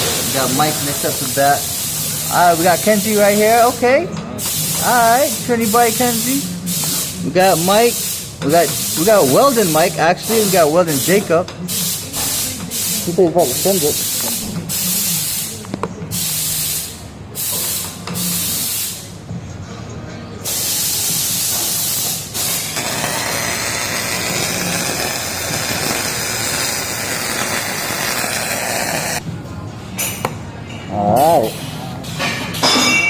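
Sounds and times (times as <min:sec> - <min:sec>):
welding arc crackling hiss: 0:00.0 - 0:03.8, 0:04.4 - 0:19.1, 0:20.5 - 0:29.2.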